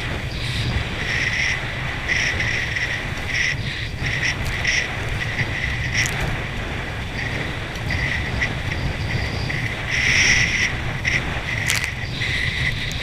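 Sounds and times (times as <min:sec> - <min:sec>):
wind buffeting: 0:00.0 - 0:13.0.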